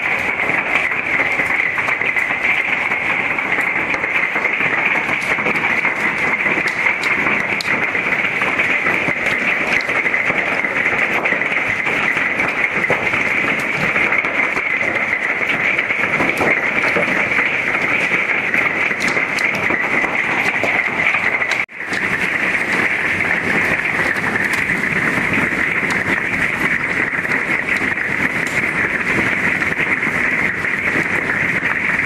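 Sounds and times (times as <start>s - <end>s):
large hail pelting down: 0.0s - 32.0s.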